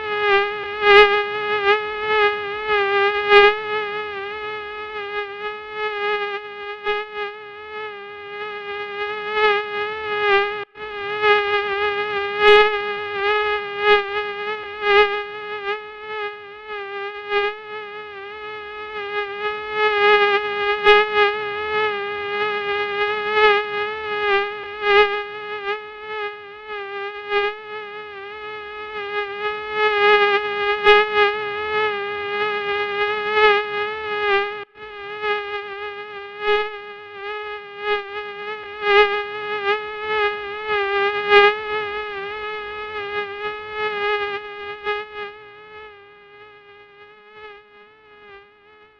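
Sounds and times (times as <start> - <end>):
mosquito whining hum: 0.0 - 48.9.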